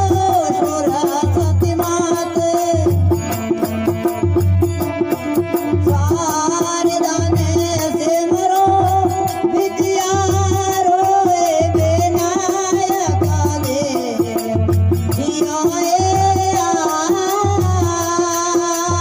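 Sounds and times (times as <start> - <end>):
hand drum beat: 0.0 - 19.0.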